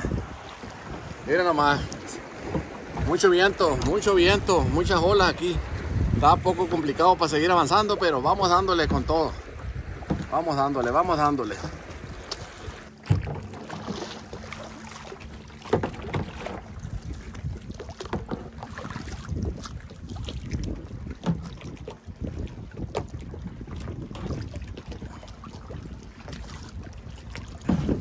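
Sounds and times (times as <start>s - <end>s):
paddle strokes in water: 0.0s - 28.0s
waves splashing against hull: 0.0s - 28.0s
wind buffeting microphone: 0.0s - 28.0s.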